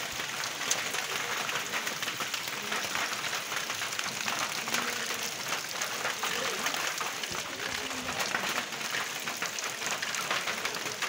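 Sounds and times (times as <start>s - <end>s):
rain on wet road: 0.0s - 11.0s.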